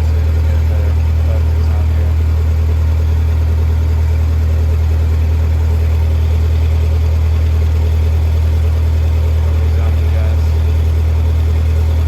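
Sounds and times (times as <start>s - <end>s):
welder gasoline engine running: 0.0s - 12.0s.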